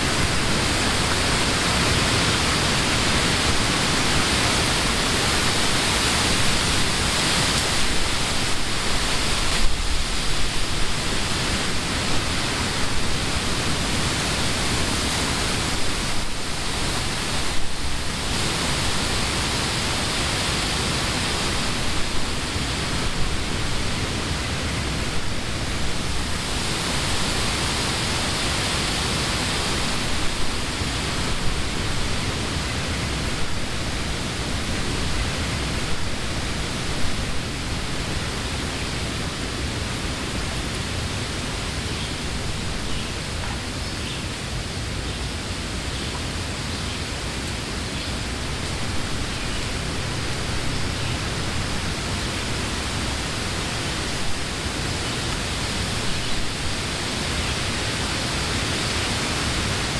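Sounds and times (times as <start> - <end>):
wind rustling leaves: 0.0 - 59.9.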